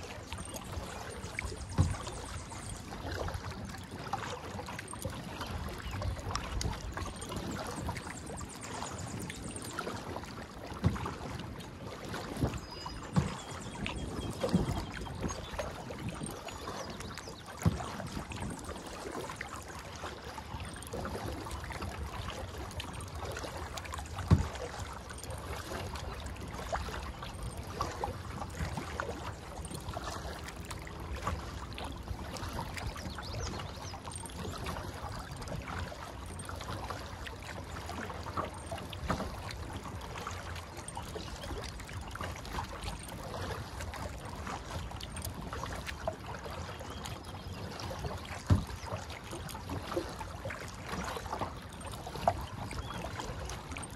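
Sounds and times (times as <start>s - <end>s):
paddle splashing in water: 0.0s - 53.9s
water dripping off paddle: 0.1s - 53.9s.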